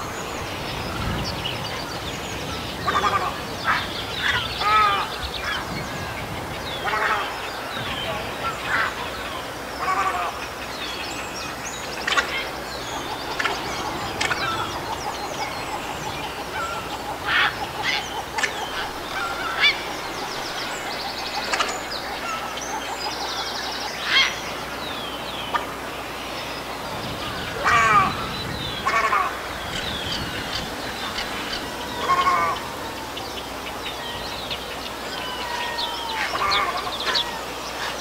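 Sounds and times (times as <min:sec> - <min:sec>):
birds making harsh calls: 0:00.0 - 0:38.0.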